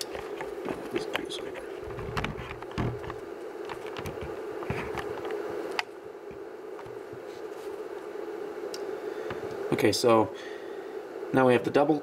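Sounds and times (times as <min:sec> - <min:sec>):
transformer electrical buzz: 0:00.0 - 0:12.0.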